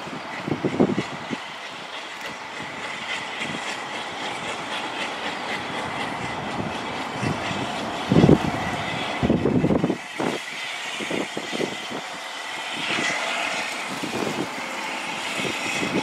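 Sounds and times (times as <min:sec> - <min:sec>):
train wheels rattling: 0:00.0 - 0:16.0.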